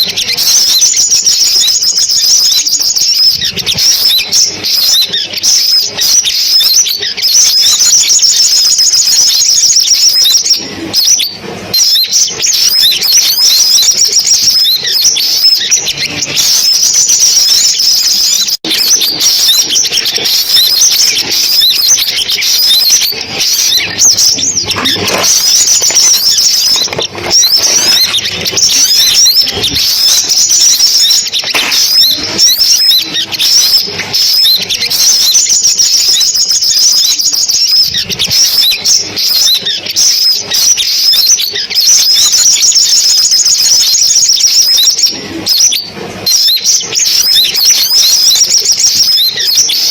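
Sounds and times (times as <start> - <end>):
sunbirds chirping and trilling: 0.0 - 49.9.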